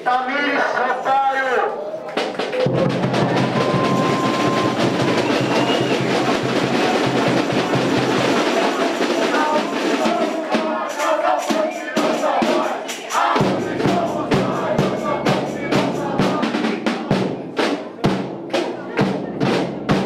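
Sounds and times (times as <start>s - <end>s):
crowd noise: 0.0s - 20.0s
loud music with drums: 2.2s - 20.0s
sharp drum strikes: 2.6s - 20.0s.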